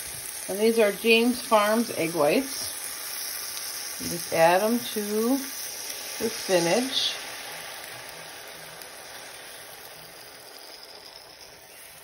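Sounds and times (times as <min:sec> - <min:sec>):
egg whites sizzling in pan: 0:00.0 - 0:12.0.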